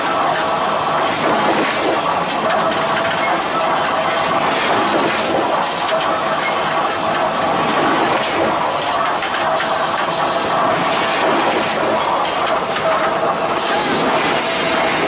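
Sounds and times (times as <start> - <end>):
forging mill running: 0.0 - 15.0.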